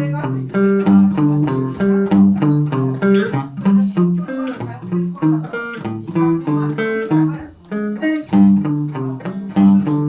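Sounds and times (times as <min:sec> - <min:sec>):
electric guitar plucked notes: 0:00.0 - 0:10.0.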